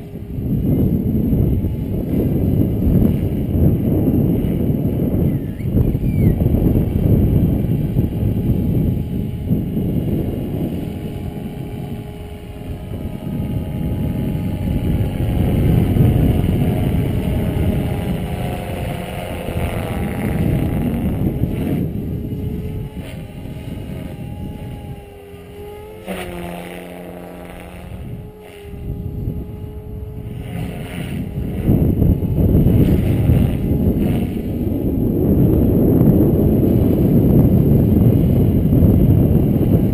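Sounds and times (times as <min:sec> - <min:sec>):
rc helicopter whine: 0:00.0 - 0:39.9
steady tone: 0:00.0 - 0:39.9
wind buffeting microphone: 0:00.0 - 0:39.9.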